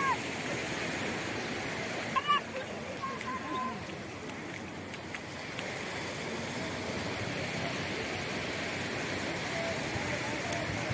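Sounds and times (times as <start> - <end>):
waves breaking on beach: 0.0 - 10.9.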